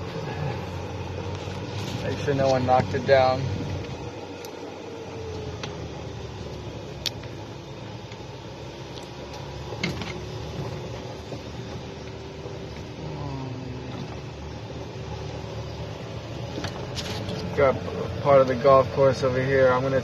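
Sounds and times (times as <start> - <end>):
golf cart motor hum: 0.0 - 20.0.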